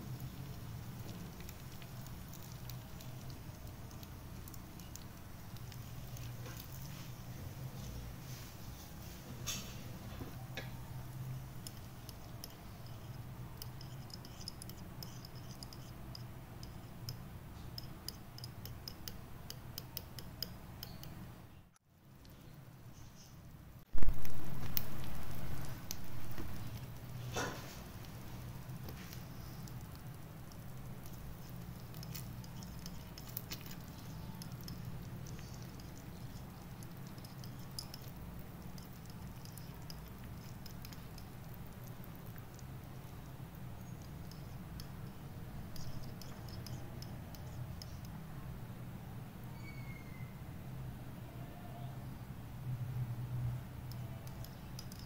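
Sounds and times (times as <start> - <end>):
steady low hum: 0.0 - 49.6.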